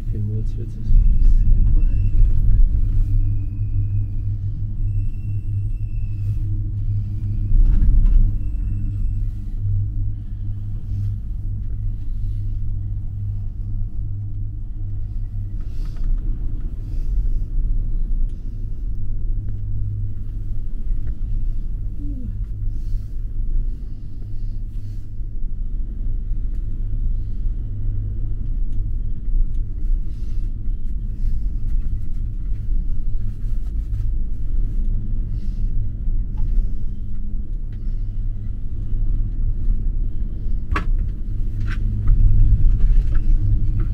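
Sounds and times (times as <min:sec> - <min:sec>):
gondola cabin low rumble: 0:00.0 - 0:43.9.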